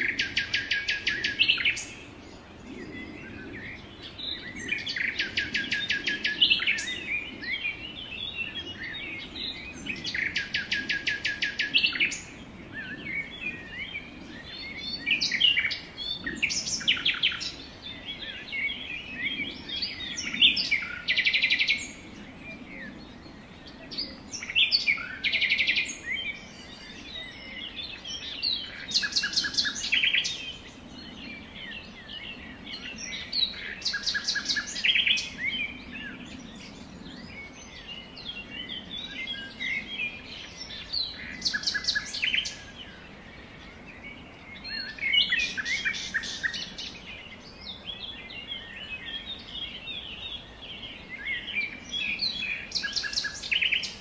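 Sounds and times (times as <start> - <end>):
songbirds trilling: 0.0 - 54.0.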